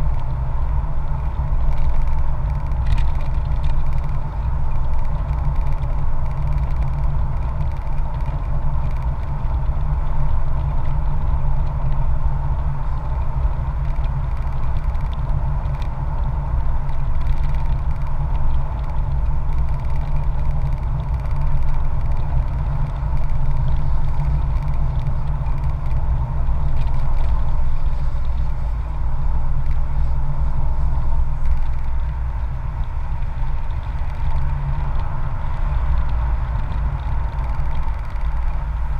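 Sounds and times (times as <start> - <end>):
motorcycle engine and wind rumble: 0.0 - 38.9.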